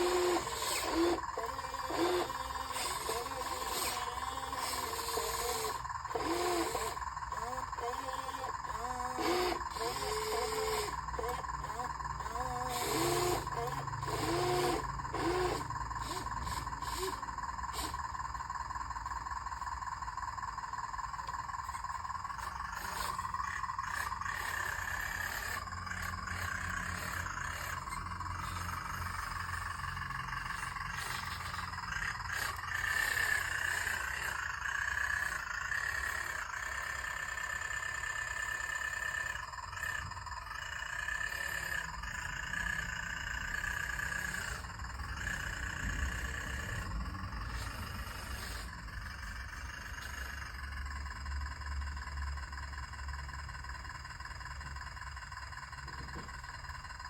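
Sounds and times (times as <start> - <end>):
small electric motor whining: 0.0 - 51.2.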